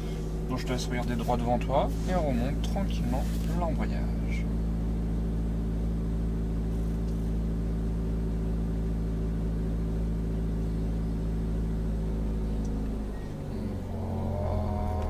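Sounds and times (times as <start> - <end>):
car engine humming from inside: 0.0 - 15.0.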